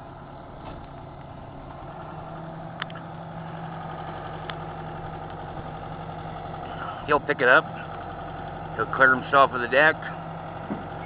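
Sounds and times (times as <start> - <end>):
excavator diesel engine idling: 0.0 - 11.0.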